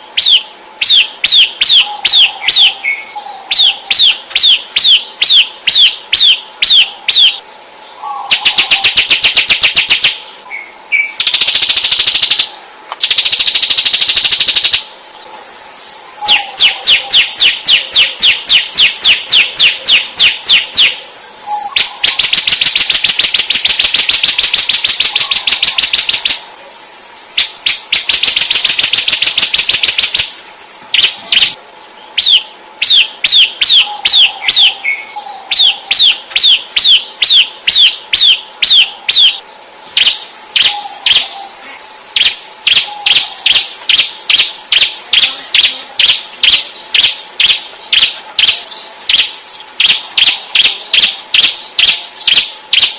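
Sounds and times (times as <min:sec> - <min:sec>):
steady high-pitched buzz: 0:00.0 - 0:52.9
songbird singing whistled trills: 0:00.2 - 0:52.9.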